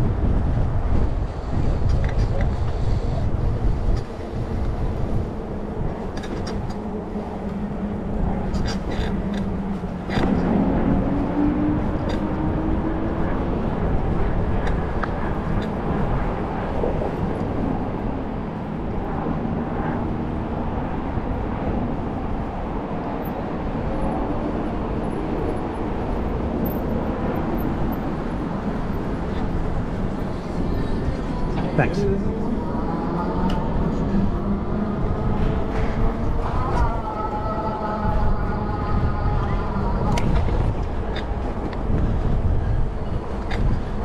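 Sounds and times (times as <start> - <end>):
low vehicle drone: 0.0 - 44.0
road traffic hum: 0.0 - 44.0
wind on microphone: 0.0 - 44.0.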